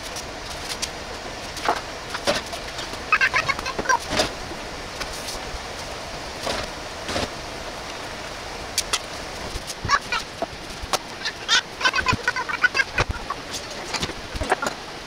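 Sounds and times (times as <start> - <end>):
steady simmering hiss: 0.0 - 15.0.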